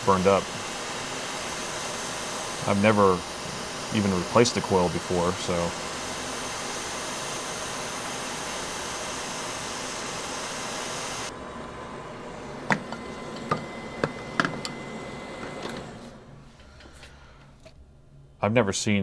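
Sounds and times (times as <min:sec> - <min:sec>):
hot-air station hissing: 0:00.0 - 0:17.6.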